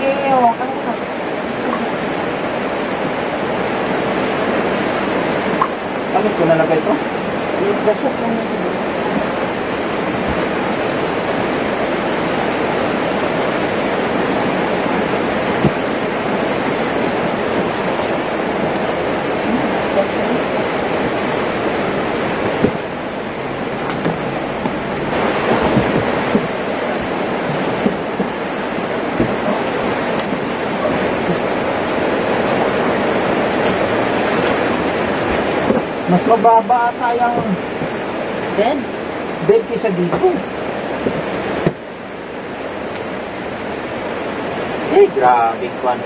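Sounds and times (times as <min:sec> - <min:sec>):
heavy rain and floodwater rushing: 0:00.0 - 0:46.0.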